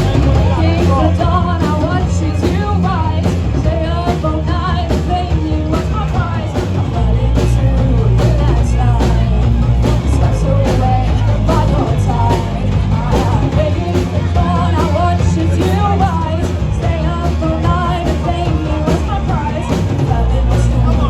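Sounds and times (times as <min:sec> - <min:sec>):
bass guitar: 0:00.0 - 0:21.0
drums: 0:00.0 - 0:21.0
person singing: 0:00.0 - 0:21.0.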